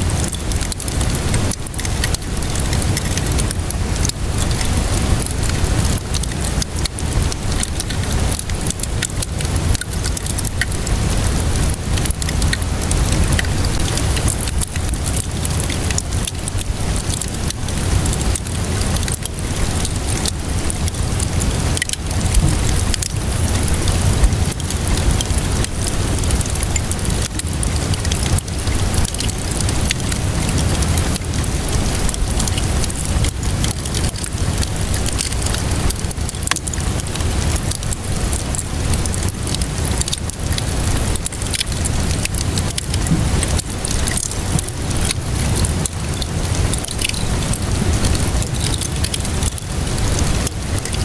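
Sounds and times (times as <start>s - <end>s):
steady rainfall: 0.0s - 51.0s
wood fire crackling: 0.0s - 51.0s.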